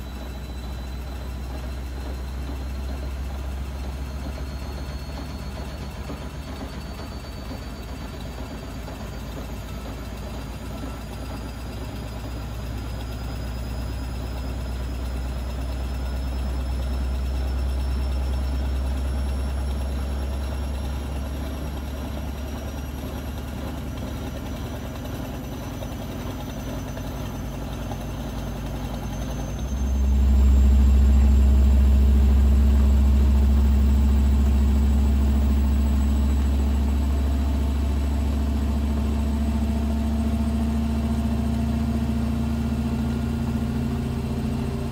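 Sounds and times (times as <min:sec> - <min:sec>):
washing machine motor whine: 0:00.0 - 0:44.9.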